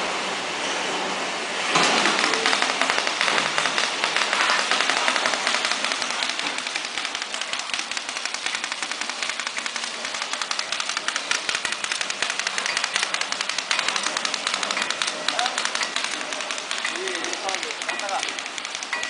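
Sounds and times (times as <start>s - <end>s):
packing machine whirring: 0.9s - 19.0s
rapid mechanical clatter: 1.7s - 19.0s.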